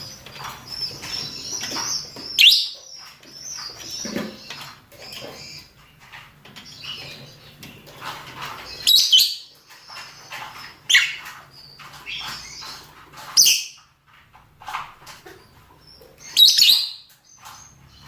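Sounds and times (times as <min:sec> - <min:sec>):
lovebirds chattering: 0:00.0 - 0:18.0.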